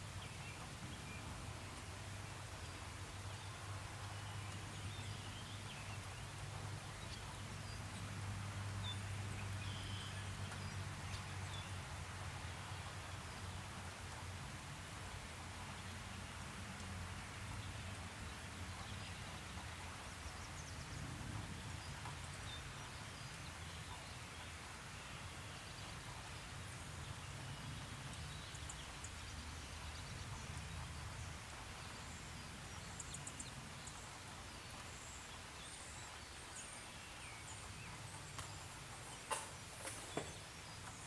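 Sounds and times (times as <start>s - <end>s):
low rumble with hiss: 0.0s - 41.0s.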